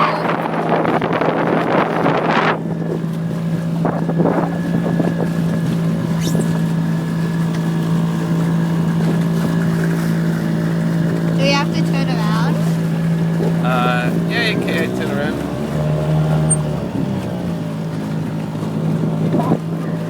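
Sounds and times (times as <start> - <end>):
boat motor running: 0.0 - 20.0
wind buffeting microphone: 0.0 - 20.0.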